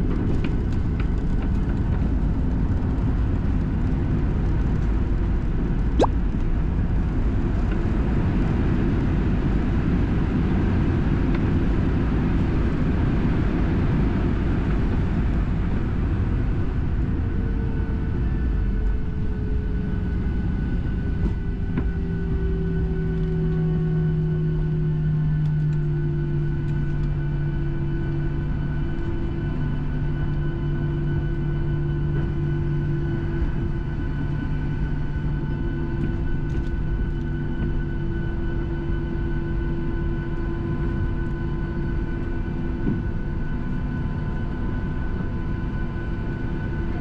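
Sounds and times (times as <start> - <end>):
continuous low rumble: 0.0 - 47.0.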